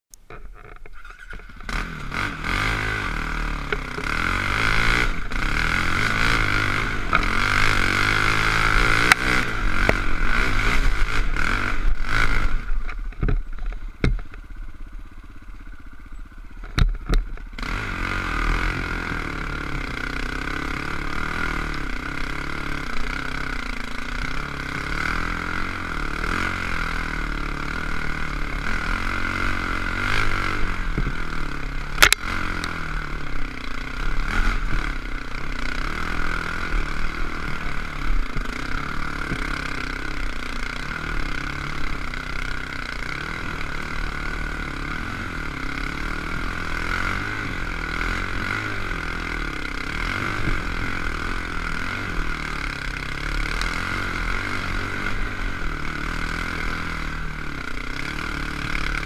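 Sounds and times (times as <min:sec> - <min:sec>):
dirt bike engine under load: 0:00.2 - 0:59.0.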